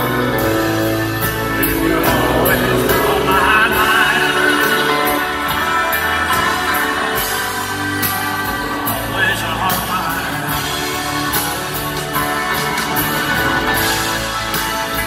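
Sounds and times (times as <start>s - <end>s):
live band playing country ballad: 0.0s - 15.0s
person singing: 0.0s - 15.0s.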